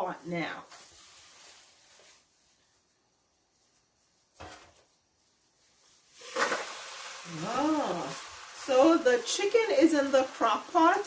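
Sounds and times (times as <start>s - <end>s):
plastic rustle: 0.0s - 11.0s.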